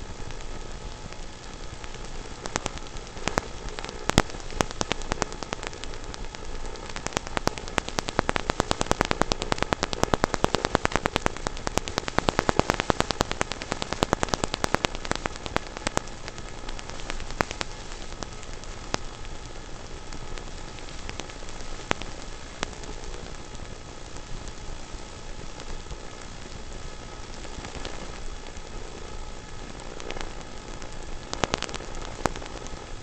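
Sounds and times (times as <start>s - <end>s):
faint steady whine: 0.0s - 33.0s
stones crackling under rc car: 0.0s - 33.0s.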